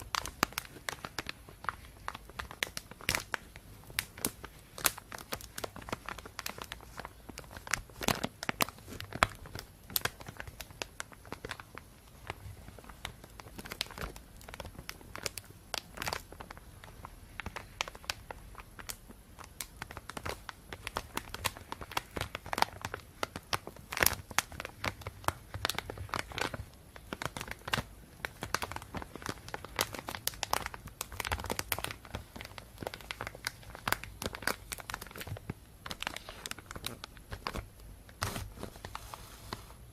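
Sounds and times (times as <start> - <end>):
plastic bag crinkling: 0.0 - 39.9.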